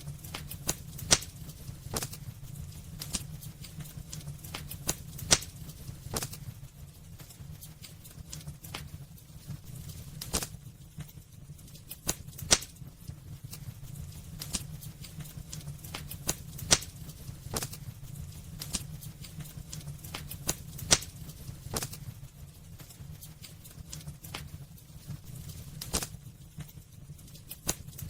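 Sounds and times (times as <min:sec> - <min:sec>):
firewood crackling and popping: 0:00.0 - 0:28.0
low fire rumble: 0:00.0 - 0:28.0.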